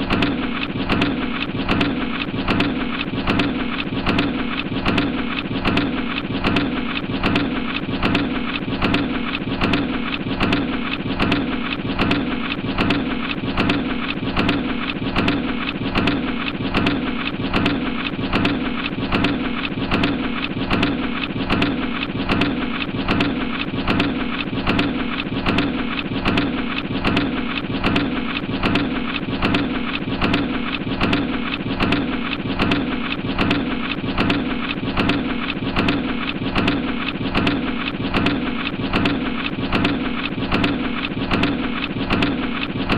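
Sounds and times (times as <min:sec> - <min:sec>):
press machine clatter: 0:00.0 - 0:42.9
sharp rhythmic knocks: 0:00.0 - 0:42.9.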